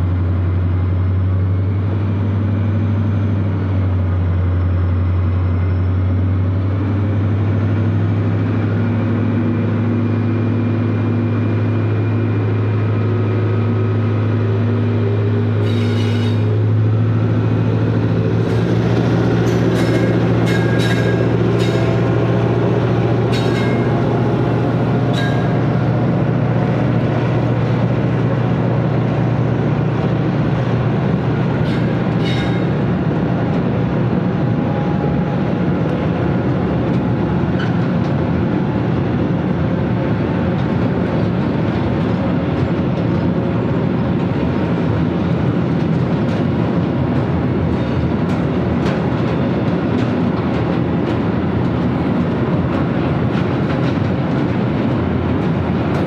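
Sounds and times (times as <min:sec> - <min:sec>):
train rumbling on tracks: 0:00.0 - 0:56.0.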